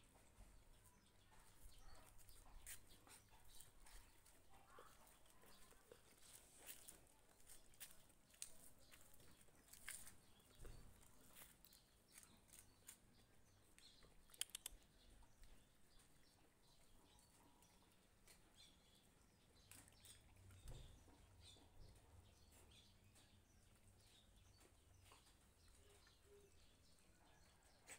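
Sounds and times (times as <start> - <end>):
dogs chewing and licking: 0.2 - 27.1.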